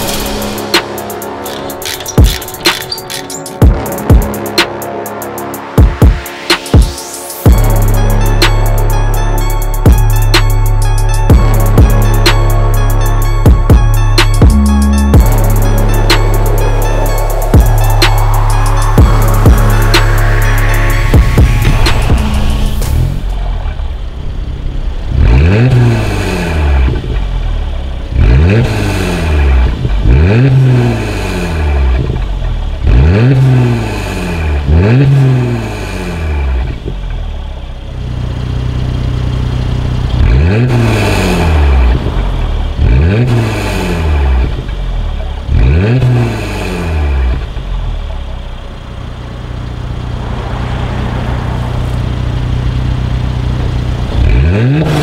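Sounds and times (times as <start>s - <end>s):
car engine idling: 0.0s - 55.0s
car engine rev blips: 0.0s - 55.0s.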